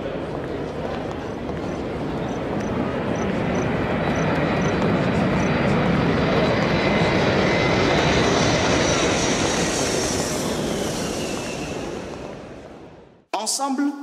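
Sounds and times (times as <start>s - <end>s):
aircraft engine rushing: 0.0s - 13.2s.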